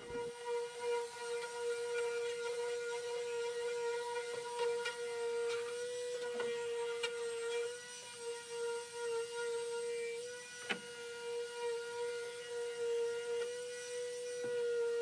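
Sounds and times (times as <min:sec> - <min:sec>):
electric palm sander humming: 0:00.0 - 0:15.0.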